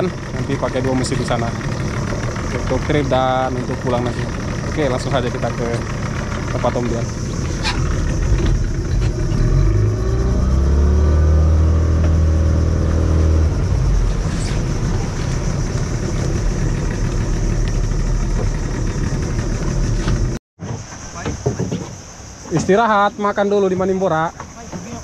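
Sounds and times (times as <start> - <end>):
outboard motor running: 0.0 - 20.4.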